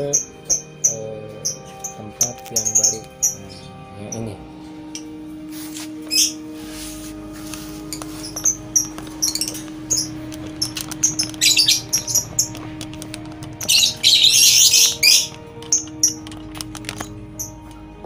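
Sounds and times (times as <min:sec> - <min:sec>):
rapid bird chattering: 0:00.0 - 0:04.4, 0:06.1 - 0:06.4, 0:07.8 - 0:17.6
lovebirds chirping and squawking: 0:00.0 - 0:18.0.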